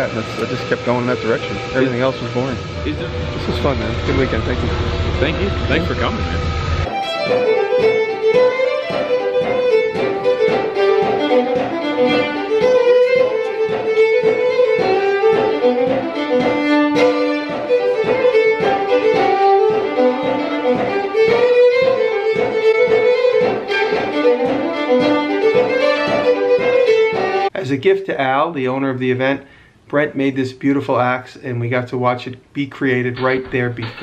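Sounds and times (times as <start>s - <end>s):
fiddle playing fast tune: 0.0s - 27.5s.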